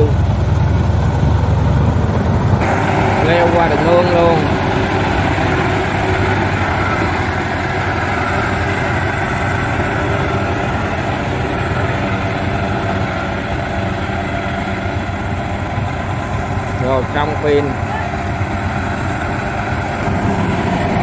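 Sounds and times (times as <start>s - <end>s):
combine harvester engine drone: 0.0s - 21.0s
thin high whine: 2.6s - 21.0s.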